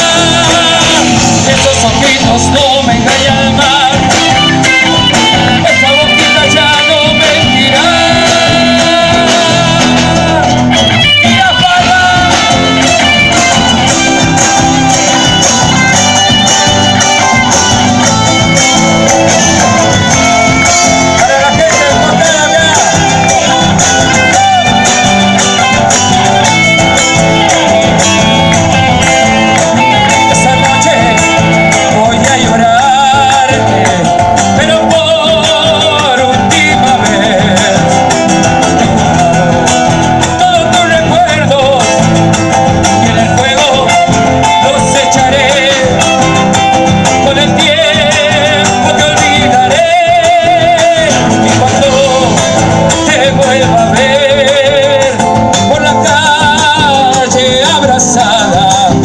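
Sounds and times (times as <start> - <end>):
music with guitar and singing: 0.0 - 59.0.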